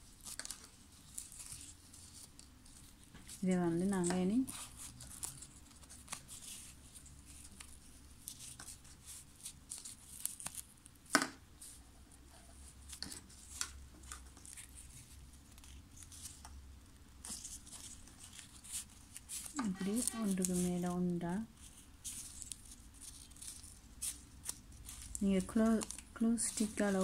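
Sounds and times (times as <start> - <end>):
ribbon rustling and crinkling: 0.0 - 27.0.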